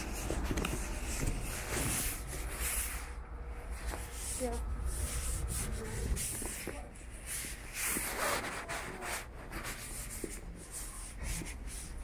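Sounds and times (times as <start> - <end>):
footsteps: 0.0 - 12.0.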